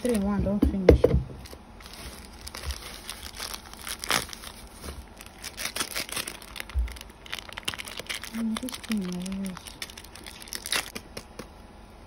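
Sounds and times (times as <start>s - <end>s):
plastic sachets crinkling: 0.0s - 0.3s, 1.4s - 11.4s.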